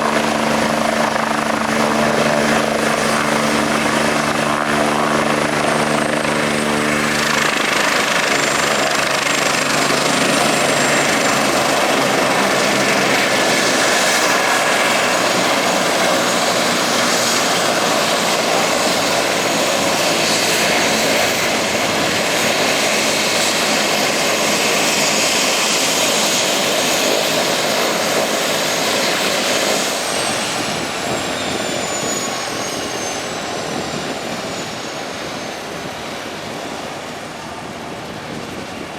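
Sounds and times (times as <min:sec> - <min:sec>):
helicopter engines and rotor: 0:00.0 - 0:38.9
high turbine whine: 0:00.0 - 0:38.9.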